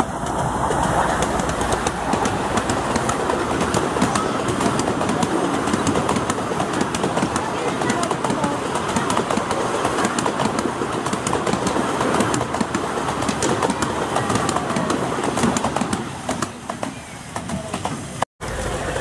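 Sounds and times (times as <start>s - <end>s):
railway carriages rolling past: 0.0s - 19.0s
wheels clicking over rail joints: 0.0s - 19.0s.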